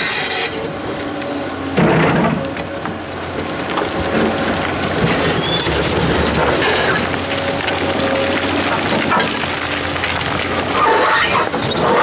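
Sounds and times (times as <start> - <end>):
excavator bucket scraping stones: 0.0 - 12.0.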